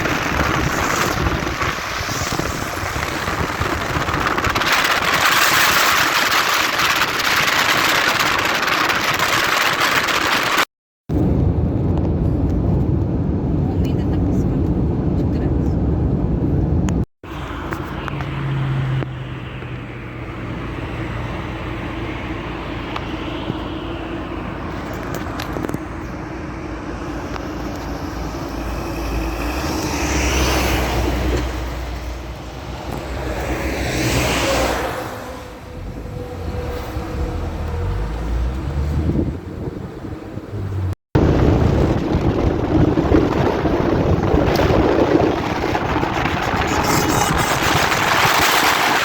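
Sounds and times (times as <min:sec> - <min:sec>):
engine and street noise: 0:00.0 - 0:49.0.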